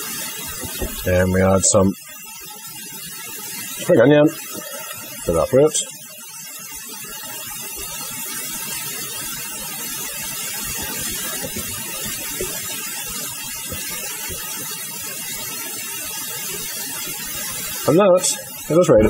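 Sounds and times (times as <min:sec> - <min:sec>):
rice sizzling in a frying pan: 0:00.0 - 0:19.0.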